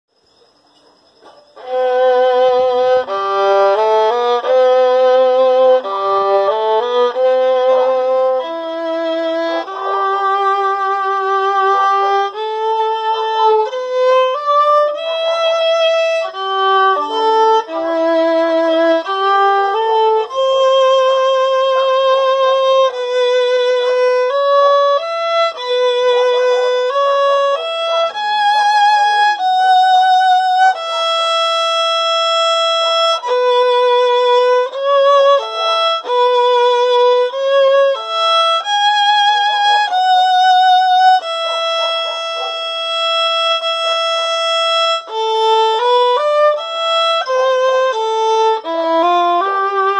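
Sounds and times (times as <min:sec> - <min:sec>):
solo violin melody: 0:01.5 - 0:49.9.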